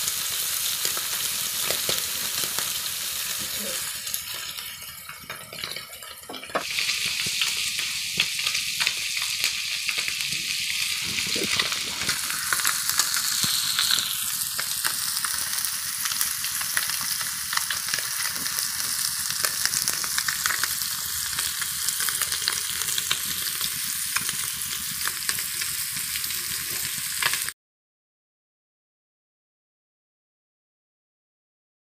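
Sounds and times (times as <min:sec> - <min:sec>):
oil sizzling and popping: 0:00.0 - 0:27.6.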